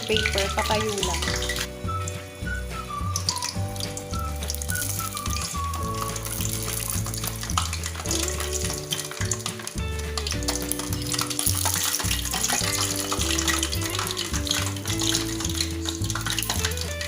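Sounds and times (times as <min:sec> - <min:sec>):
background music with bass: 0:00.0 - 0:17.0
oil sizzling and crackling: 0:00.0 - 0:17.0.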